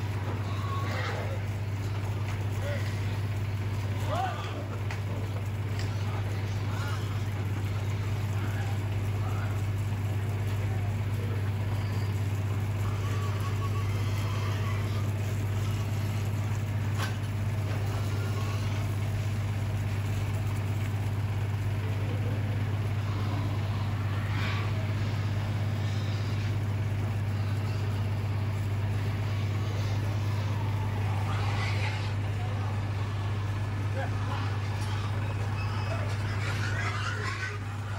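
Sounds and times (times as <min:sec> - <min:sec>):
pigs squealing and grunting: 0:00.0 - 0:37.9
truck engine idling: 0:00.0 - 0:37.9.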